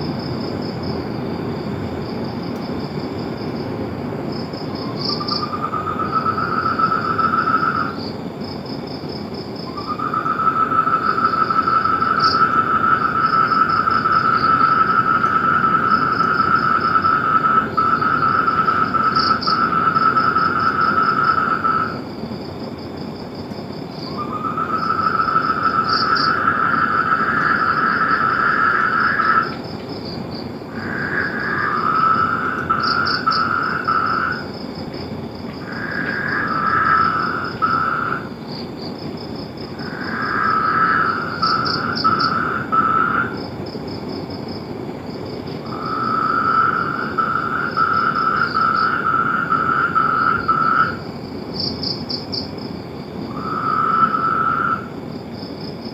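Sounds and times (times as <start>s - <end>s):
frogs trilling: 3.0s - 55.9s.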